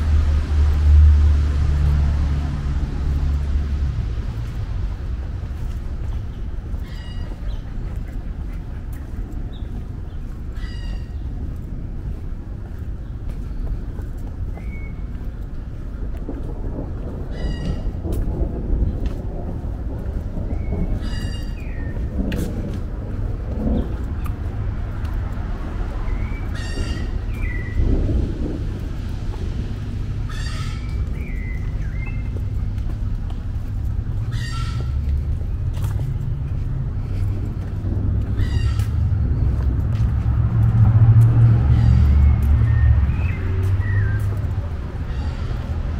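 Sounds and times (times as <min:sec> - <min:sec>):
city traffic rumble: 0:00.0 - 0:45.9.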